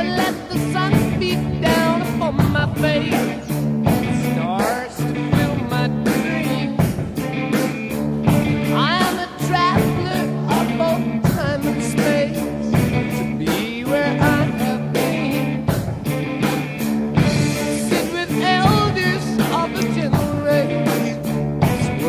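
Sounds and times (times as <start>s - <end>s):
person singing: 0.0s - 7.6s, 8.5s - 22.0s
steady drum beat: 0.0s - 22.0s
sustained guitar chords: 0.0s - 22.0s.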